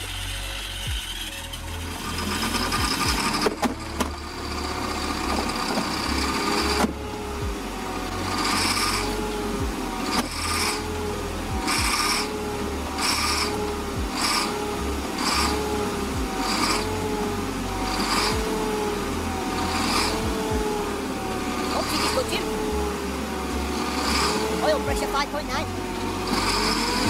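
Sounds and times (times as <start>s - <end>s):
diesel generator running rough: 0.0s - 27.0s.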